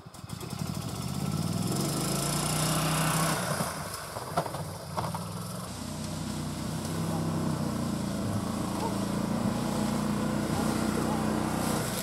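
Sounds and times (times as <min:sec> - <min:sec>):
golf cart engine running: 0:00.0 - 0:12.0
leaves rustling under tyres: 0:00.1 - 0:12.0.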